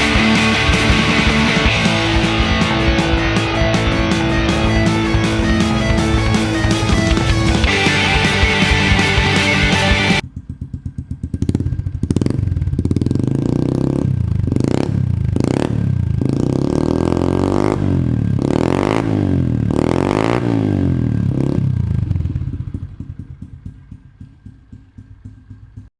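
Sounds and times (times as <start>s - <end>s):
motorbike engine revving: 0.0s - 25.9s.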